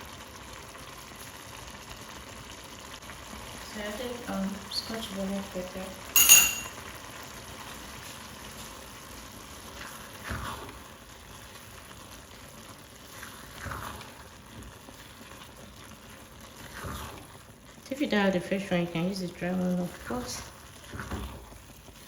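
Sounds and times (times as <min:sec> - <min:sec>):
liquid boiling in a pot: 0:00.0 - 0:22.0.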